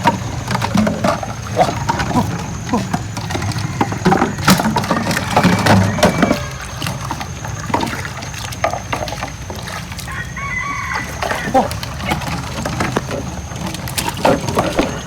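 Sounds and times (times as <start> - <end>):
water sounds: 0.0 - 15.0.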